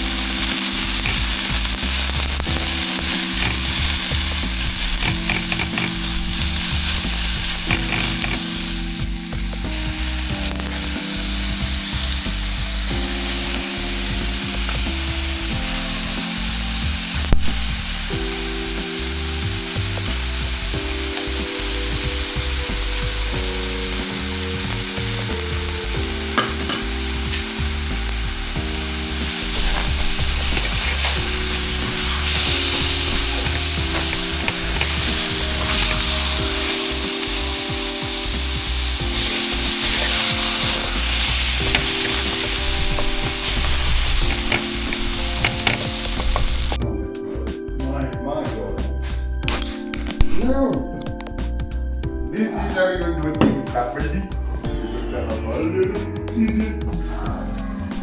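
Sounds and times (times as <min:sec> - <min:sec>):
steak sizzling in a pan: 0:00.0 - 0:46.8
background music of held chords: 0:00.0 - 0:58.0.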